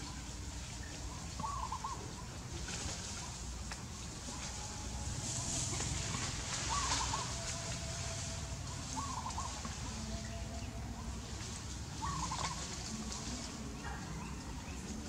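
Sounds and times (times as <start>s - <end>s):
bird warbling call: 0.8s - 3.4s, 4.3s - 14.9s.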